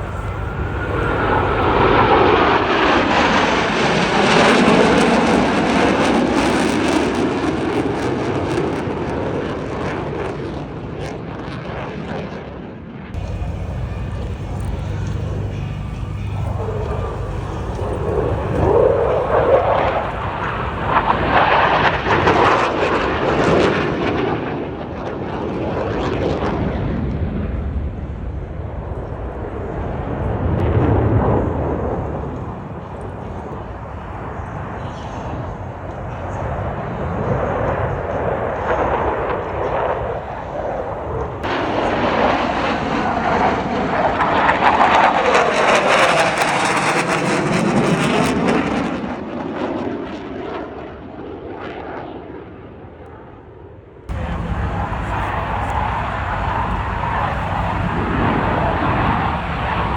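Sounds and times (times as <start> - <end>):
jets roaring past: 0.0 - 9.0, 13.2 - 50.8, 54.0 - 59.9.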